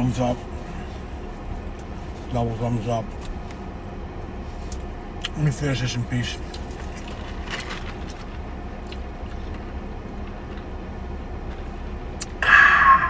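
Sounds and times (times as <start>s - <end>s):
car idling inside cabin: 0.0s - 13.0s.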